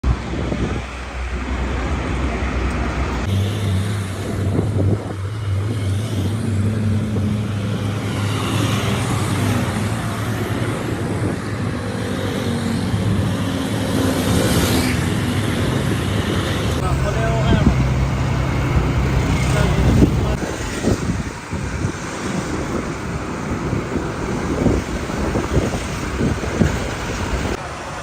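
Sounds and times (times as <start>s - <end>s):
road traffic noise: 0.0s - 28.0s
vehicle engine humming: 0.0s - 28.0s.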